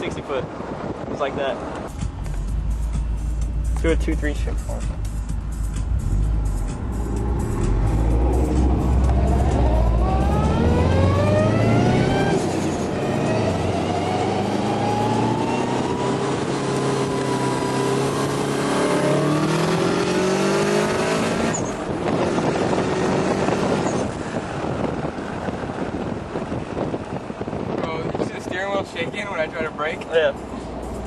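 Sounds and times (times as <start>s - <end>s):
car engine under full throttle: 0.0s - 31.0s
road and wind noise: 0.0s - 31.0s.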